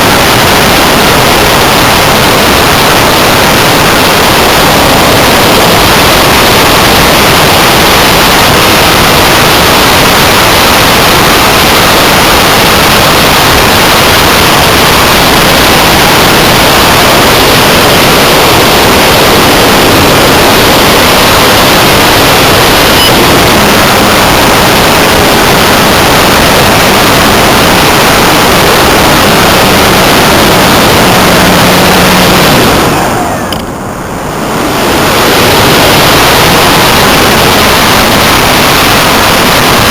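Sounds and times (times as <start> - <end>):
model plane motor and propeller: 0.0 - 39.9
rushing airflow: 0.0 - 39.9.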